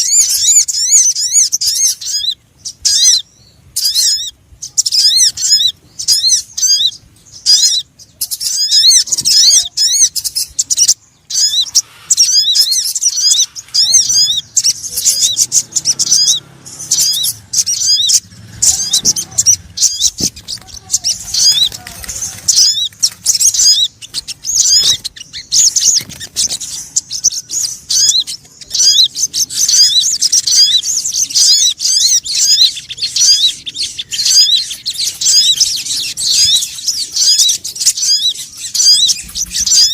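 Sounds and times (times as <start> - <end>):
rapid high-pitched bird chirps: 0.0 - 39.9.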